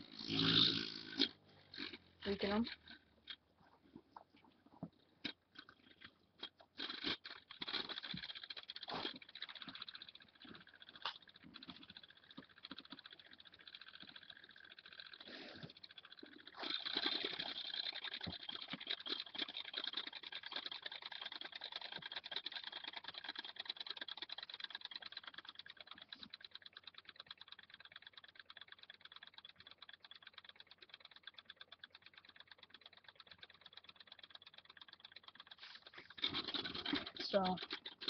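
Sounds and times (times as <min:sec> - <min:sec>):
spinning top rattling: 0:00.0 - 0:03.4, 0:04.0 - 0:38.0.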